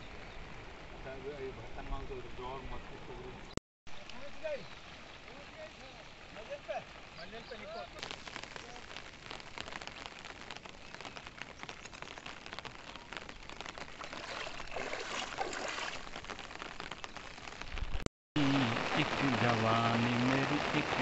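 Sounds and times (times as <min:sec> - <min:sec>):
heavy rain on floodwater: 0:00.0 - 0:02.2, 0:03.9 - 0:21.0.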